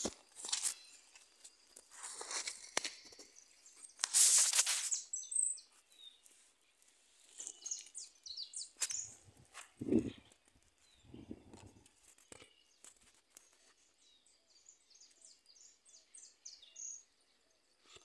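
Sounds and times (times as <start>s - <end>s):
birds chirping: 0.0s - 4.1s, 4.8s - 18.0s.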